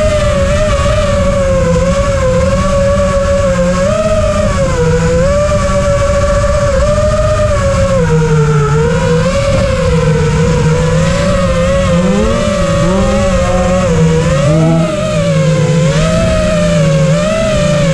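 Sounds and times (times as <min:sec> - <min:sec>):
drone propellers whining: 0:00.0 - 0:17.9.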